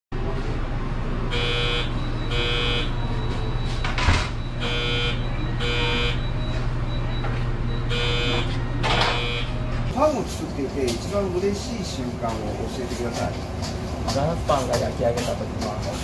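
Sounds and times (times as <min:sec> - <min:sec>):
low oven hum: 0:00.2 - 0:16.0.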